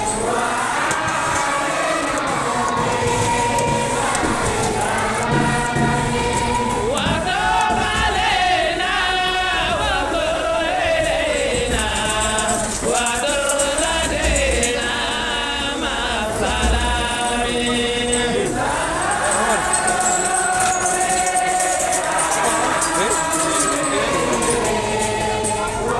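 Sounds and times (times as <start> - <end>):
voices chanting: 0.0 - 25.9.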